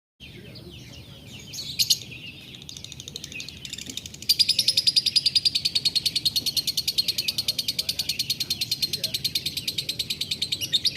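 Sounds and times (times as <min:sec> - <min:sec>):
lovebird chirping and trilling: 0:00.2 - 0:10.9.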